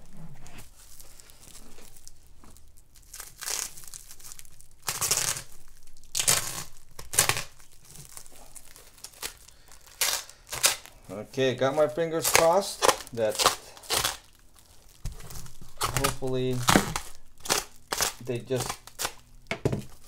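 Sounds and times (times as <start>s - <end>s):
cellophane crinkling and tearing: 0.5s - 20.0s.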